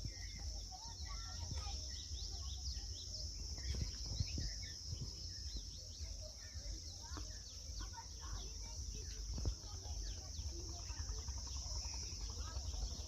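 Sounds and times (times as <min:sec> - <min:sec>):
birds chirping: 0:00.0 - 0:13.0
high-pitched insect drone: 0:00.0 - 0:13.0.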